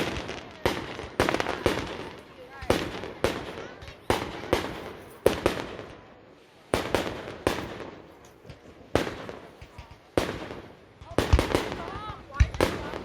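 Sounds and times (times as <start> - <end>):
fireworks bangs with echo: 0.0 - 13.0.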